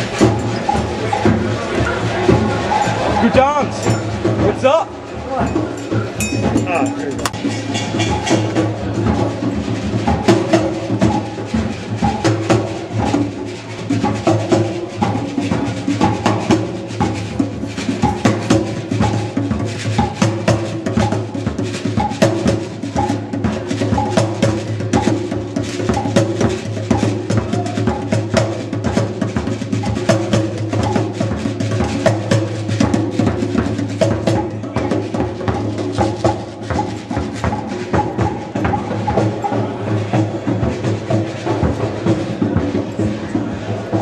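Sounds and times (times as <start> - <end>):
hand drums fast rhythm: 0.0 - 44.0.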